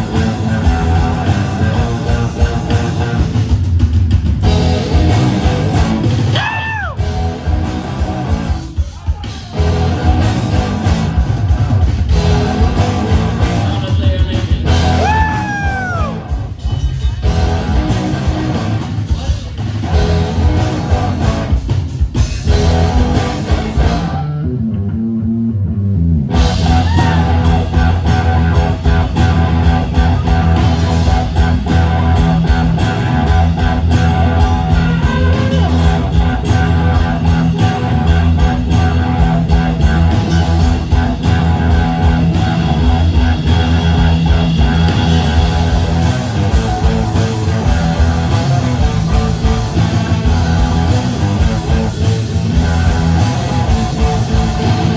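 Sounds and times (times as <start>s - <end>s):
drum kit: 0.0s - 25.0s, 26.2s - 54.9s
bass guitar: 0.0s - 54.9s
electric guitars: 0.0s - 54.9s.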